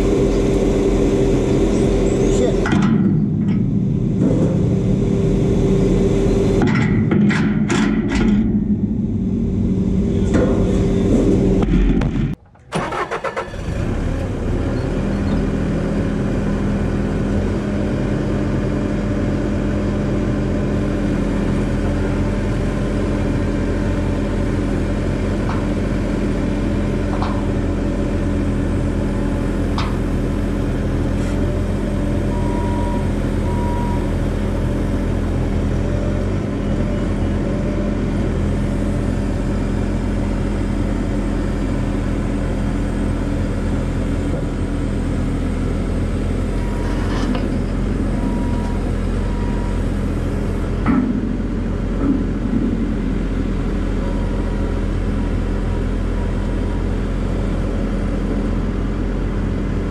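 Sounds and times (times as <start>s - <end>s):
loader engine running: 0.0s - 59.9s.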